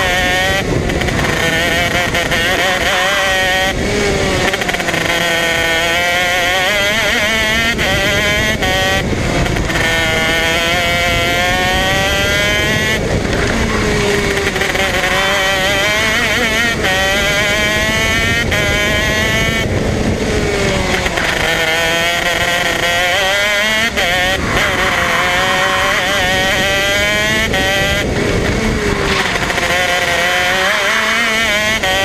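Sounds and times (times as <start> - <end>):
kart engine at high revs: 0.0 - 32.0.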